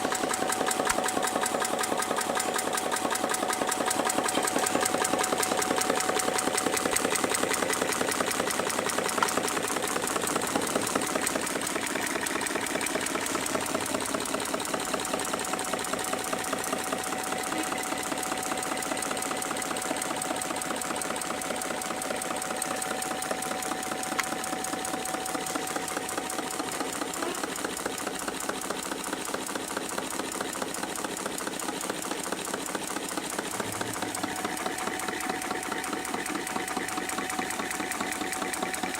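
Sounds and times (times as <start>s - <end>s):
engine mechanical clatter: 0.0s - 38.9s.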